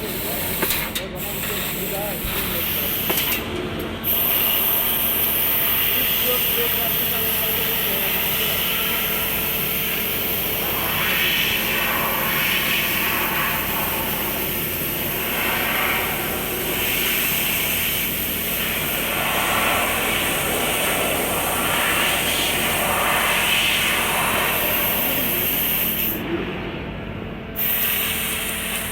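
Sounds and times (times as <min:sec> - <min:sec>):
laser cutter hissing: 0:00.0 - 0:26.3, 0:27.6 - 0:28.9.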